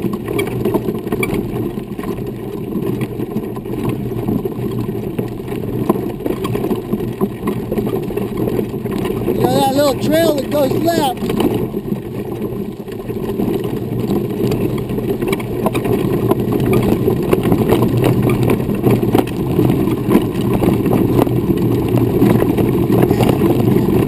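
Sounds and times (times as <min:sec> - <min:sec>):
wheels rolling over gravel: 0:00.0 - 0:24.0.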